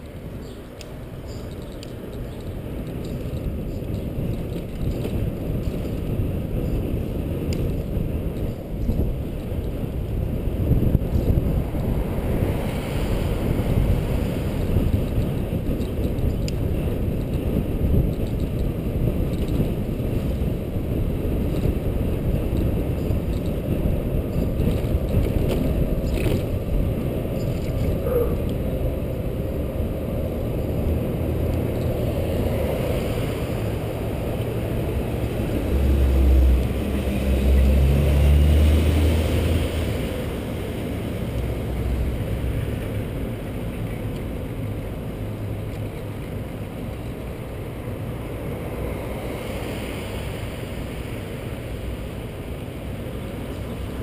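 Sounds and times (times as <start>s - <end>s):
wind buffeting microphone: 0.0s - 50.7s.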